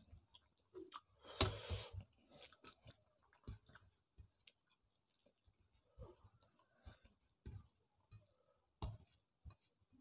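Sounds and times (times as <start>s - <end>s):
people chewing food: 0.0s - 10.0s.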